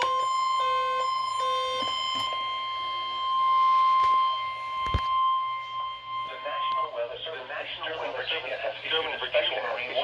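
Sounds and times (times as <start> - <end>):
steady warning alarm tone: 0.0 - 10.0.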